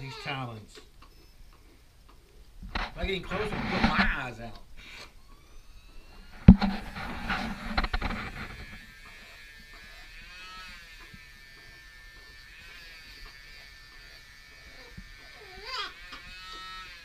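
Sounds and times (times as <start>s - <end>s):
rotary tool motor whine: 3.0s - 17.0s.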